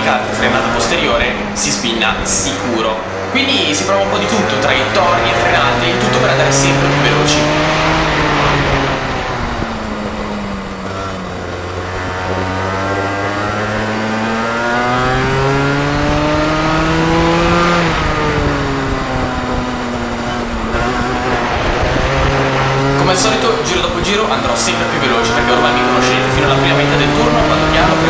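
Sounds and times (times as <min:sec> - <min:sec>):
kart engine revving: 0:00.0 - 0:28.0.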